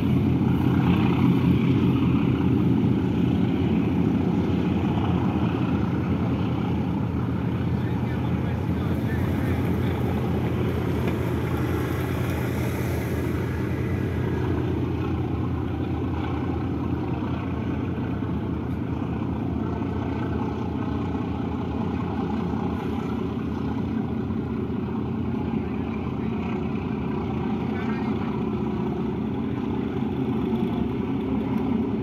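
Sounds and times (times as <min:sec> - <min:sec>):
diesel engines droning: 0:00.0 - 0:32.0.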